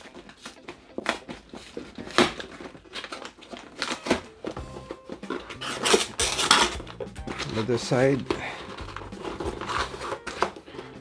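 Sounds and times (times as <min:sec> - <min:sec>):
cardboard box being opened: 0:00.0 - 0:11.0.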